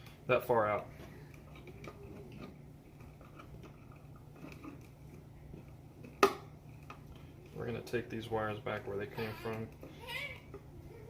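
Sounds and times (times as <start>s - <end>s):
steady low hum: 0.0s - 11.0s
faint clicks and rustles: 0.7s - 11.0s.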